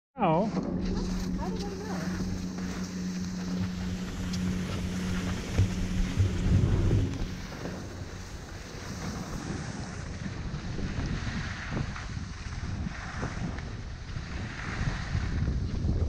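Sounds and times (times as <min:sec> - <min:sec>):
wind rushing over microphone: 0:00.3 - 0:16.0
skis hissing over snow: 0:01.0 - 0:16.0.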